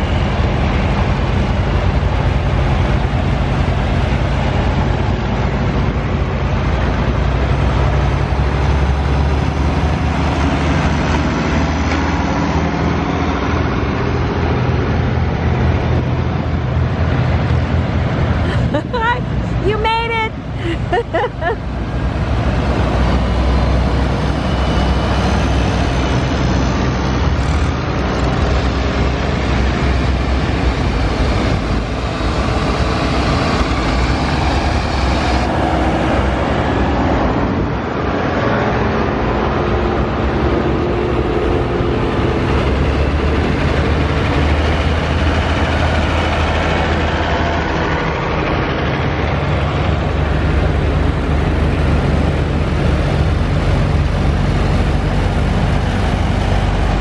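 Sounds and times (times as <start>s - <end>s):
tractors driving past: 0.0s - 57.0s.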